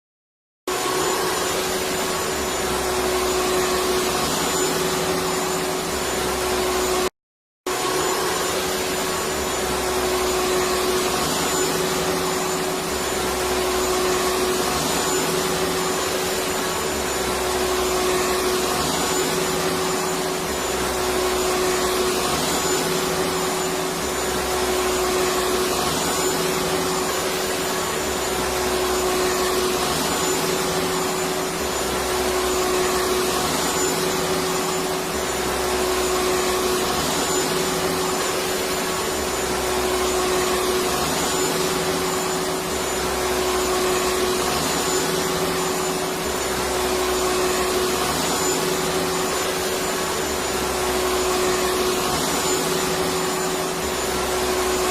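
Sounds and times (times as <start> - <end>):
vacuum cleaner running: 0.7 - 7.1, 7.7 - 54.9.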